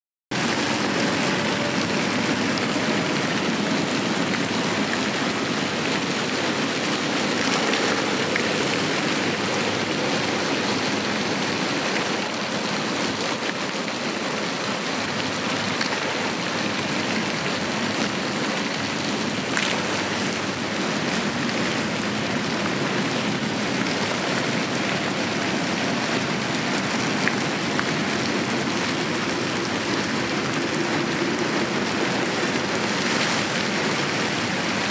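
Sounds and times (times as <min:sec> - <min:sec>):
steady rain: 0:00.3 - 0:34.9.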